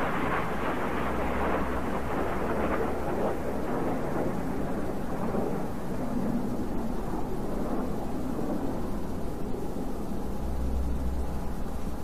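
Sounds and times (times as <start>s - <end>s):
jet engines rumbling overhead: 0.0s - 12.0s.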